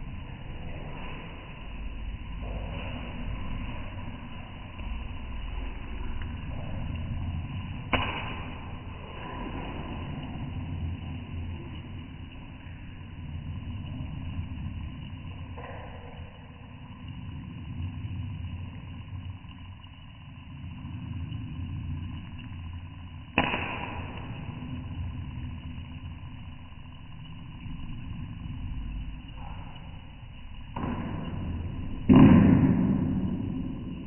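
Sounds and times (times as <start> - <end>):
gas burner rumble: 0.0 - 34.0.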